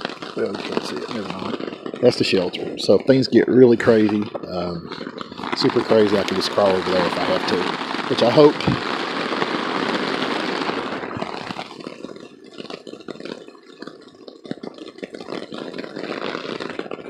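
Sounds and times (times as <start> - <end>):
heavy rain on tarp: 0.0 - 17.0.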